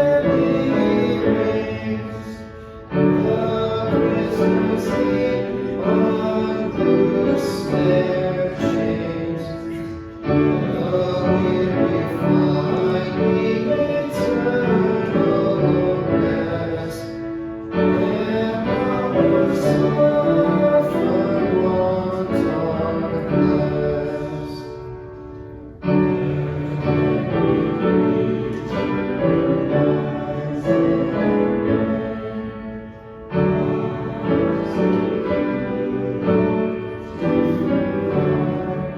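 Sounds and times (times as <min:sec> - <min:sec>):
piano accompaniment: 0:00.0 - 0:38.9
voices singing a hymn: 0:00.0 - 0:38.9.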